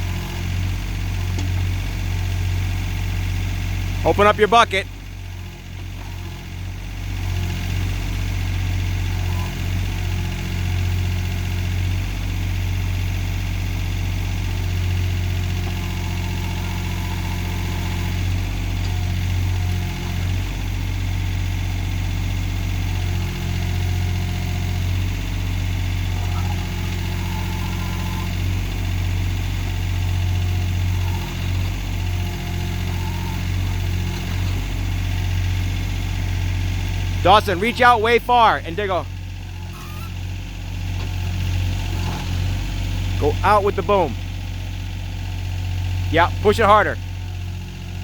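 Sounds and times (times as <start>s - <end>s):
backhoe diesel engine running: 0.0s - 48.0s.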